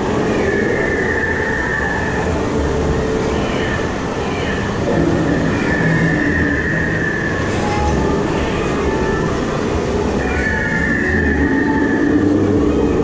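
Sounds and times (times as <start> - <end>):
ride train wheels rumbling: 0.0 - 13.0.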